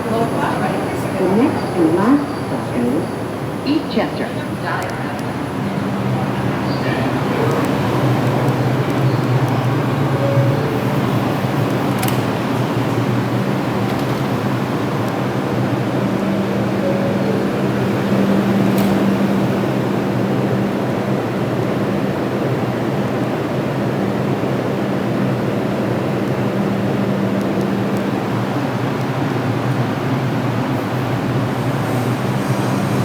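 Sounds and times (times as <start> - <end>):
subway car running noise: 0.0 - 33.0.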